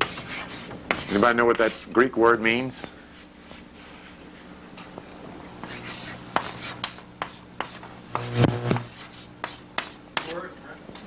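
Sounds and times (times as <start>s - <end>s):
scratchy writing strokes on a board: 0.0s - 2.2s, 3.0s - 10.5s
faint steady hum: 0.0s - 11.0s.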